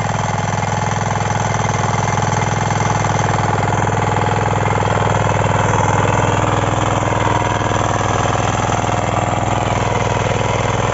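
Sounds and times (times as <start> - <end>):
power weeder engine running: 0.0 - 10.9.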